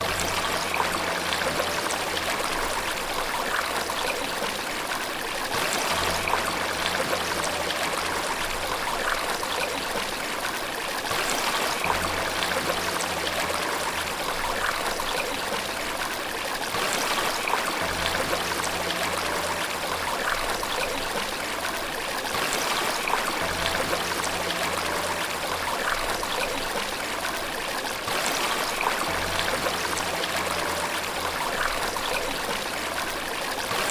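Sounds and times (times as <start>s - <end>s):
running water splashing: 0.0s - 33.9s.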